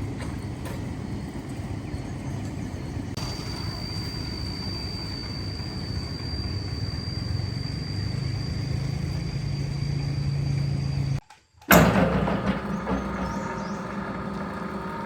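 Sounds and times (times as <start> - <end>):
concrete mixer drone: 0.0 - 15.0.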